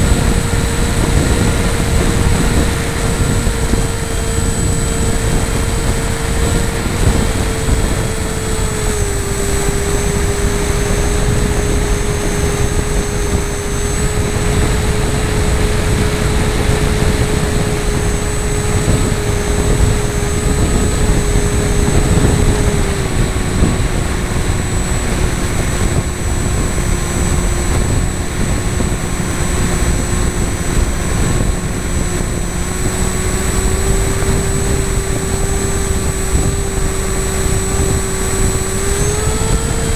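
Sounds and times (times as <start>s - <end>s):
model aircraft motor droning: 0.0s - 39.9s
wind over microphone: 0.0s - 39.9s.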